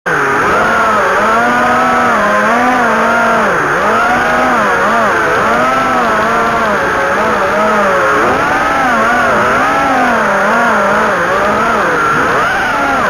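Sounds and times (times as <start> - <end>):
quadcopter motors whining: 0.1 - 13.0.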